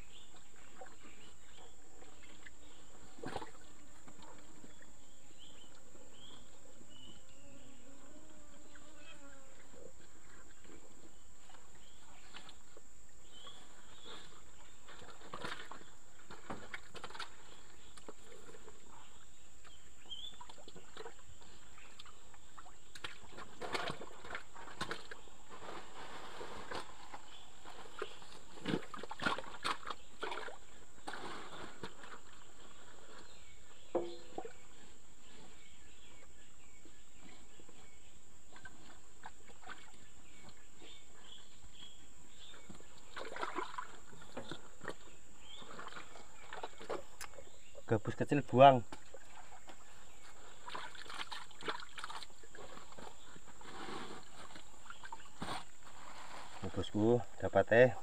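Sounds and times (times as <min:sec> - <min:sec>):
water sloshing and splashing: 0:00.1 - 0:06.4, 0:10.0 - 0:35.0, 0:36.8 - 0:58.0.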